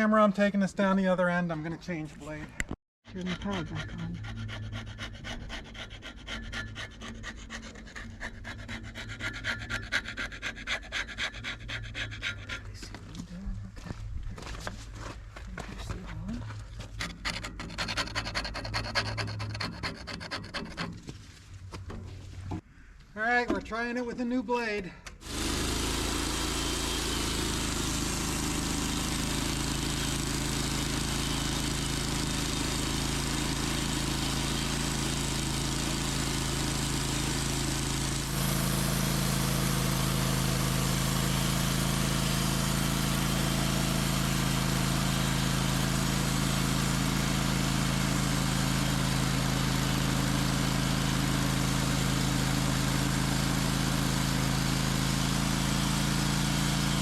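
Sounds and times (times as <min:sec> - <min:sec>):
band sawmill cutting log: 0:03.1 - 0:13.2, 0:16.8 - 0:21.1, 0:25.2 - 0:57.0.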